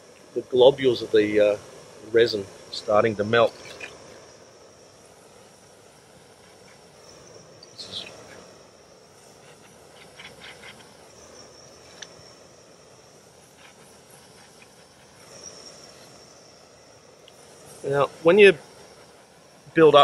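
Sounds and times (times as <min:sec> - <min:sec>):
insects droning: 0:00.0 - 0:20.0
propane torch hiss: 0:00.0 - 0:20.0.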